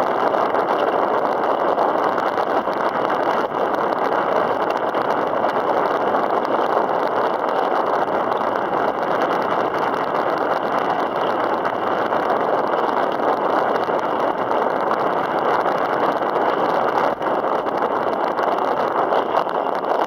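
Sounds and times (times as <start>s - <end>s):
choppy water: 0.0s - 20.0s.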